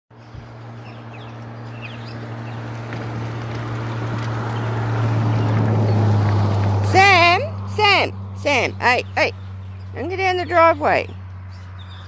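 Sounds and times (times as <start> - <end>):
scooter motor humming: 0.2 - 12.0.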